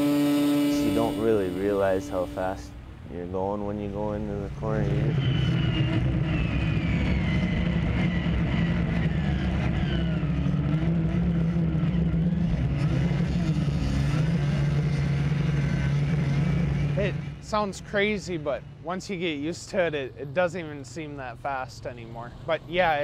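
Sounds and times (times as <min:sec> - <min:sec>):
high whining tones: 0:00.0 - 0:23.0
snowmobile engines droning: 0:00.0 - 0:23.0.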